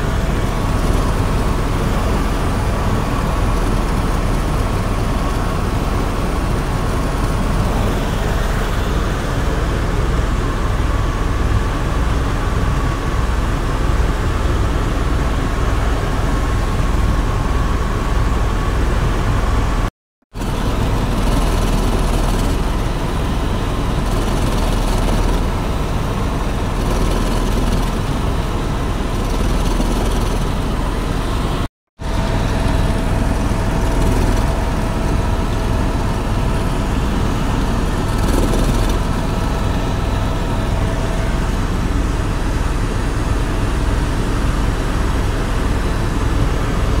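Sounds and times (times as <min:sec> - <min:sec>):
helicopter turbine and rotor drone: 0:00.0 - 0:47.0.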